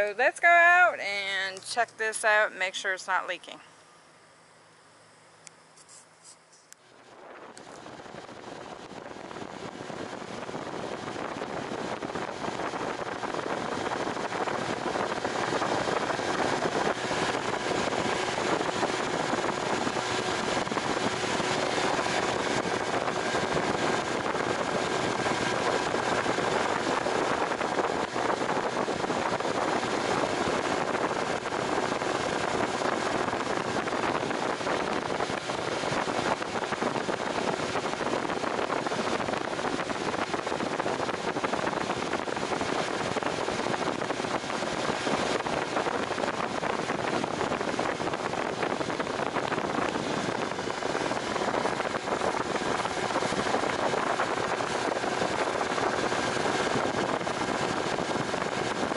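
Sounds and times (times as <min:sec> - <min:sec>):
boat motor running: 0:06.9 - 0:58.9
wind buffeting microphone: 0:07.0 - 0:58.9.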